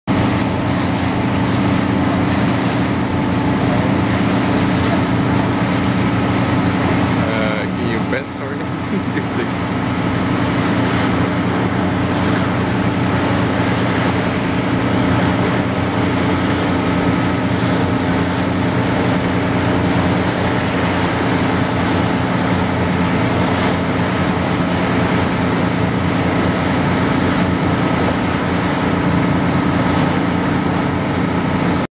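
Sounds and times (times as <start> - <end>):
boat engines droning: 0.1 - 31.9
water rushing: 0.1 - 31.9.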